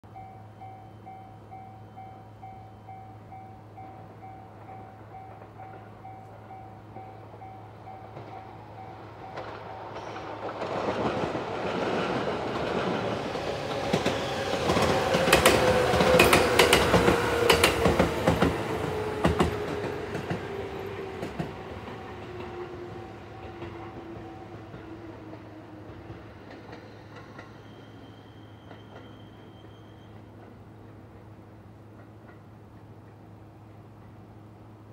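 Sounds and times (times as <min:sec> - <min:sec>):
train rail-joint clatter: 0:04.5 - 0:34.3.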